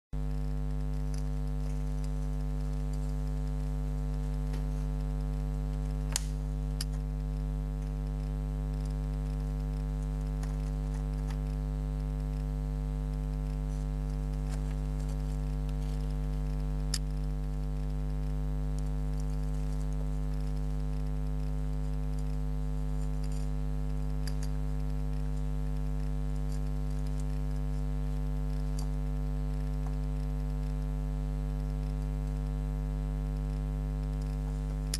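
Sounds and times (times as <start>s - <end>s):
low electrical hum: 0.2s - 34.9s
geiger counter clicks: 0.4s - 32.4s.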